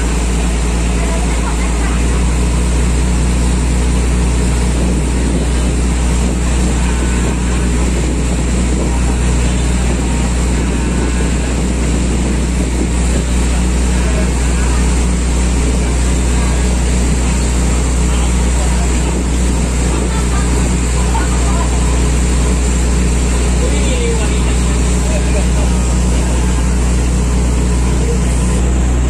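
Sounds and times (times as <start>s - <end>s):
boat engine drone: 0.0s - 29.0s
rushing water noise: 0.0s - 29.0s.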